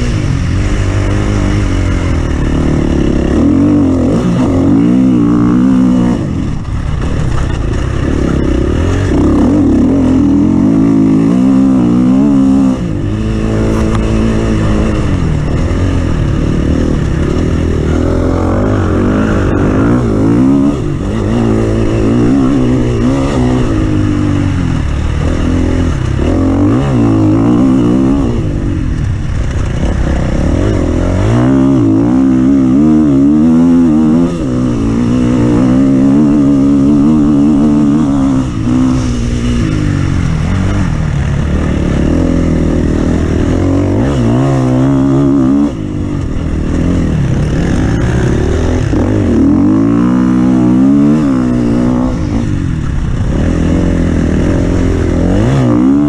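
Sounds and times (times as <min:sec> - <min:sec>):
offroad vehicle engine revving: 0:00.0 - 0:56.0.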